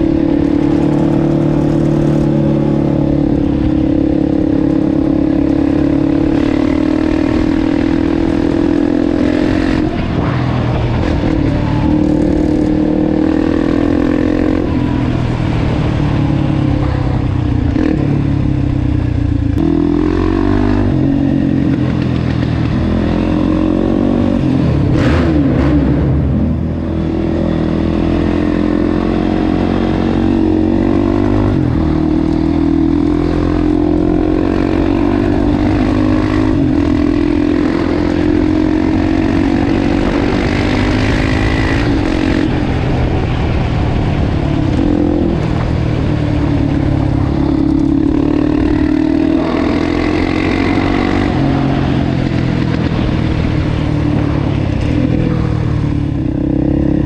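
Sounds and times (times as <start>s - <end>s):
quad engine revving: 0.0s - 15.0s, 19.6s - 57.0s.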